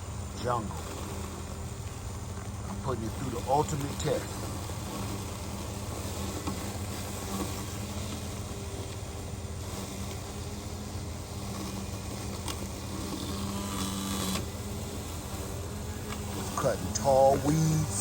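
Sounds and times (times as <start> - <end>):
robotic lawn mower motors humming: 0.0 - 18.0.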